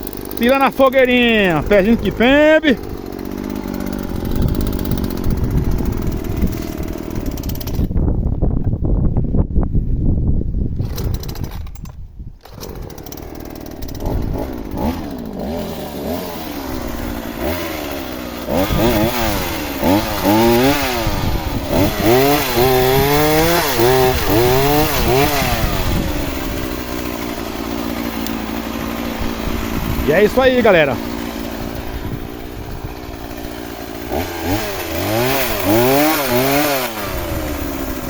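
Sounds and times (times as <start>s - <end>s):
chainsaw cutting wood: 0.0s - 8.1s, 10.8s - 38.0s.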